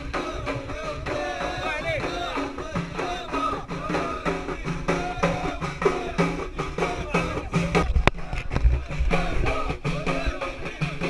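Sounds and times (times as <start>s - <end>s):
frame drums beating: 0.0s - 11.0s
voices singing chanted melody: 0.0s - 11.0s.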